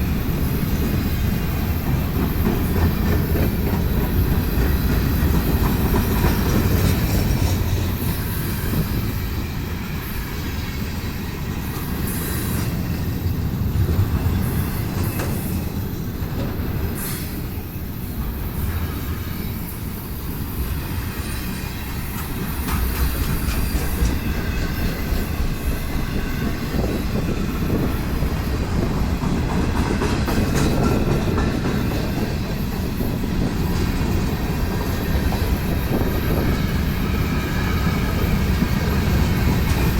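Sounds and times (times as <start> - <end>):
freight train rumbling on rails: 0.0 - 39.9
train wheel squeal: 0.0 - 39.9
wheels clacking over rail joints: 0.0 - 39.9.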